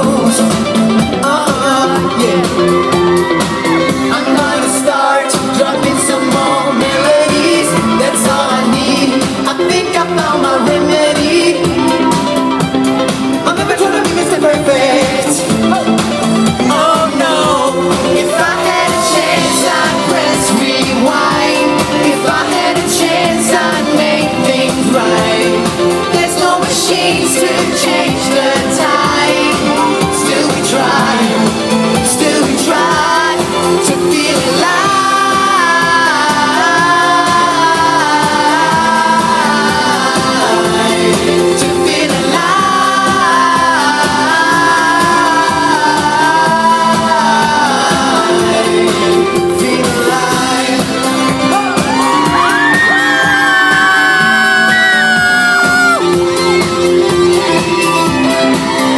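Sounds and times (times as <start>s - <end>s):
man singing into microphone: 0.0s - 12.2s, 13.4s - 56.1s
live pop band: 0.0s - 58.9s.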